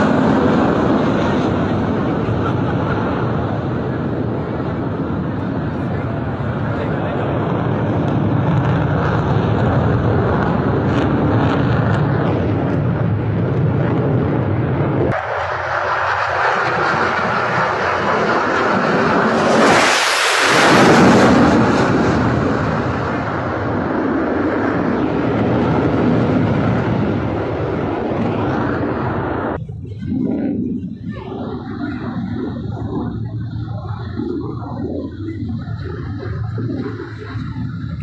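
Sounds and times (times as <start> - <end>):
fighter jet flying past: 0.0 - 38.0.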